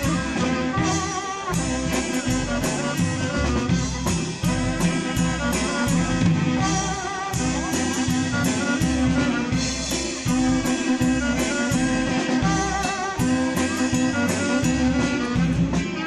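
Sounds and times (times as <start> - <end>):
bass line: 0.0 - 16.0
drum kit on a steady beat: 0.0 - 16.0
guitar: 0.0 - 16.0.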